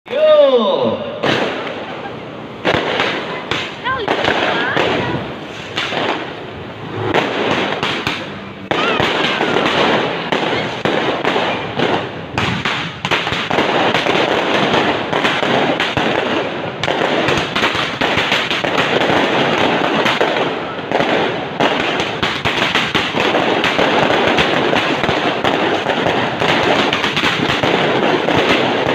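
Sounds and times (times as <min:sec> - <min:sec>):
fireworks crackling and banging: 0:00.1 - 0:28.9.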